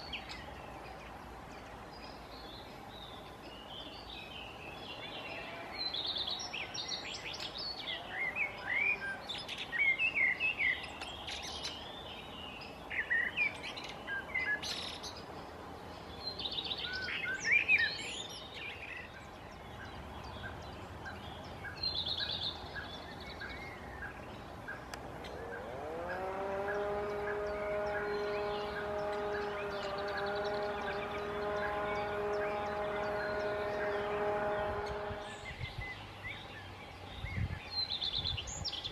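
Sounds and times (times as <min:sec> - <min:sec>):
small birds chirping and singing: 0:00.0 - 0:38.9.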